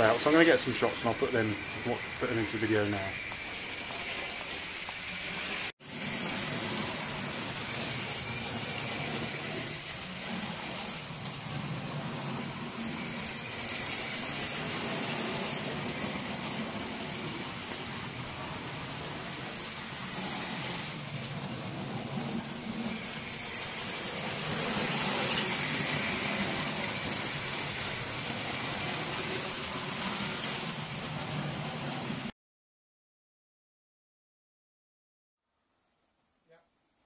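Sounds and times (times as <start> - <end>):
model trains whirring on track: 0.0 - 32.3.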